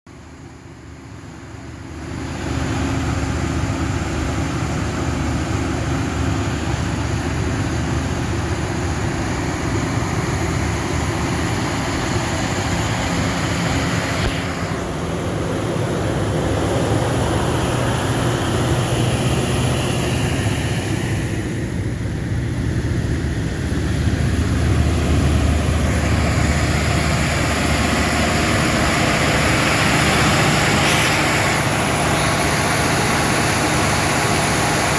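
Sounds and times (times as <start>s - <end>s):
diesel generator engine drone: 0.1s - 34.9s
exhaust and cooling fan rush: 0.2s - 34.9s.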